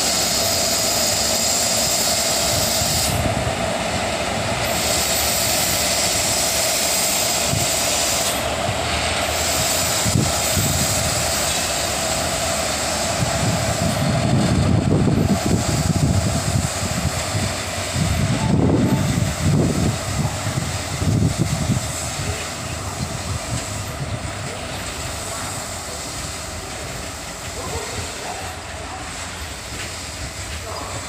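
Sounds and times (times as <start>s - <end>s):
deep train rumble: 0.0s - 31.0s
electric locomotives passing: 0.0s - 31.0s.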